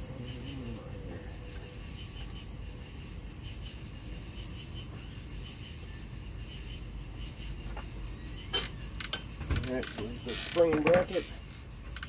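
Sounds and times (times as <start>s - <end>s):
steady low hum: 0.0s - 10.3s
crickets chirping: 0.0s - 12.0s.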